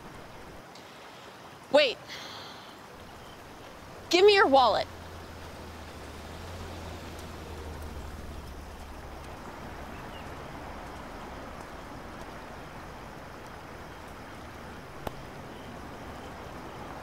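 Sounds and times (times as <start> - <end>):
even outdoor hiss: 0.0 - 17.0.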